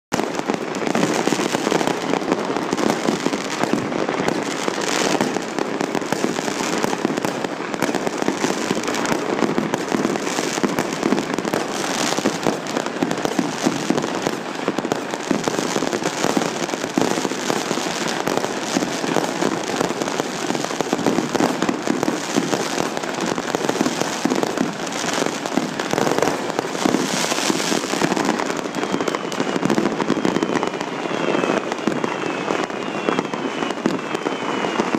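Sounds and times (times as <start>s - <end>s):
fireworks crackling: 0.1s - 34.9s
loud firework bangs: 0.1s - 34.9s.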